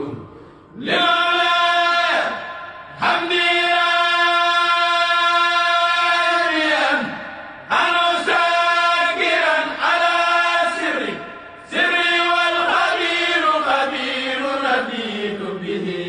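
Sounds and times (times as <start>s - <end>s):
person chanting: 0.0s - 16.0s.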